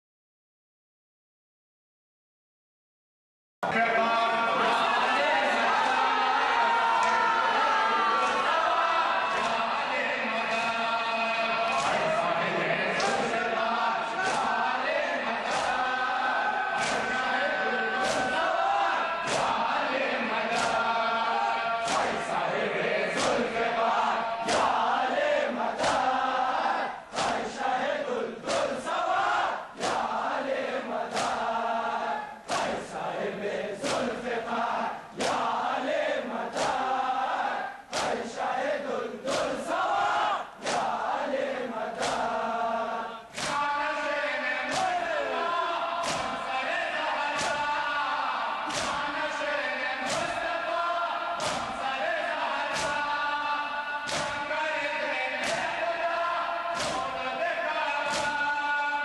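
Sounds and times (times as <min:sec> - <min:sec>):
crowd of men chanting: 0:03.6 - 0:59.0
men slapping chests in unison: 0:05.5 - 0:59.0.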